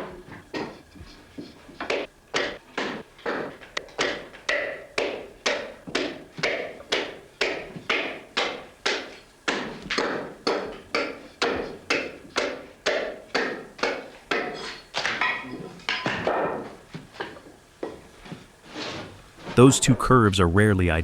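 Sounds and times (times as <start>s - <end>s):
hand tool striking wood: 0.0s - 18.4s.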